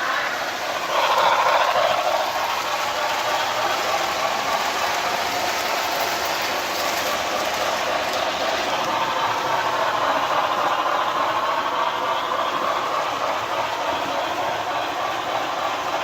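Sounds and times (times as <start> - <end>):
model steam locomotive sounds: 0.0 - 16.0
model train wheels clattering: 0.0 - 16.0.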